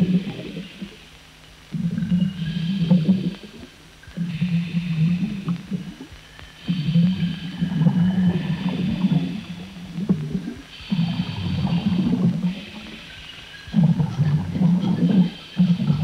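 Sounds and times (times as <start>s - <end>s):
exhaled air bubbling: 0.0s - 16.0s
scuba regulator breathing: 1.8s - 16.0s.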